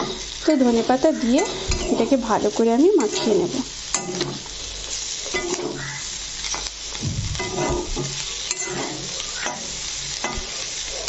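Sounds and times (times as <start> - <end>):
oil sizzling: 0.0 - 11.0
spatula scraping a hot pan: 0.0 - 11.0.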